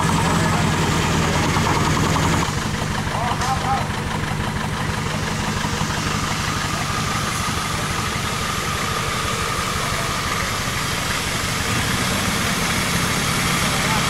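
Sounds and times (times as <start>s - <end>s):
pickup truck engine running: 0.0s - 14.0s.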